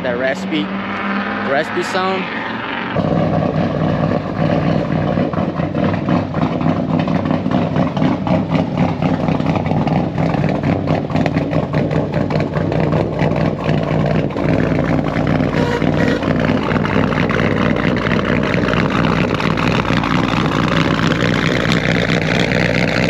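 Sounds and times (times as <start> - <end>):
car engine idling: 2.9 - 23.0.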